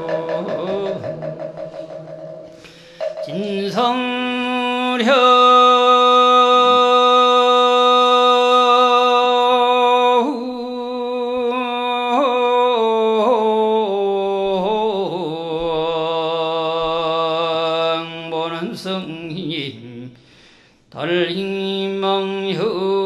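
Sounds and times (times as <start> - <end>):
person chanting: 0.0 - 20.2, 21.0 - 23.0.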